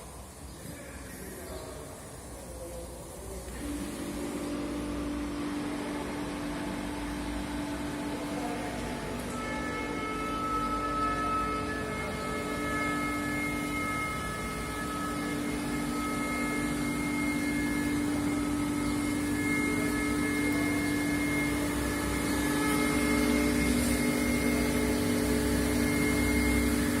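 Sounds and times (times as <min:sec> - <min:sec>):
welding machine humming: 0:02.2 - 0:27.0.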